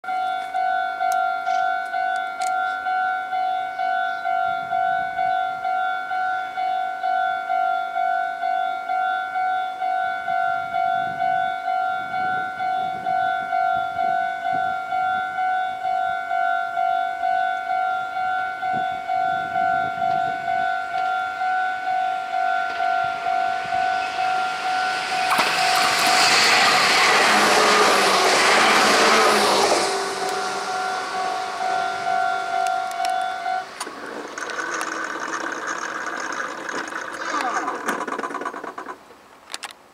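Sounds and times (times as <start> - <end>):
level crossing alarm ringing: 0.0 - 27.0, 29.7 - 35.0
trains passing: 0.1 - 39.3.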